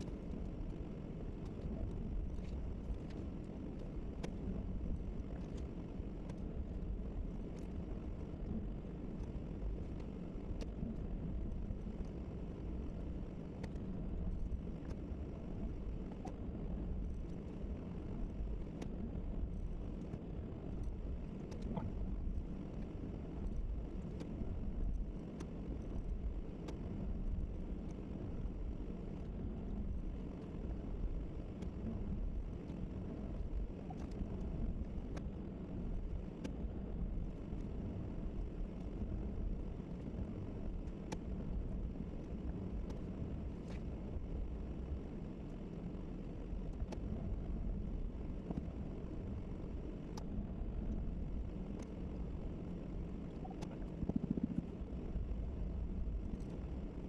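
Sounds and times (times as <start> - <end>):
faint ticks: 0.0 - 57.0.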